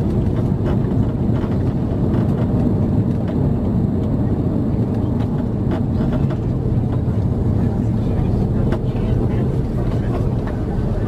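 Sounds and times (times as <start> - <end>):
airliner cabin rumble: 0.0 - 11.0
faint rattles and clicks: 0.0 - 11.0.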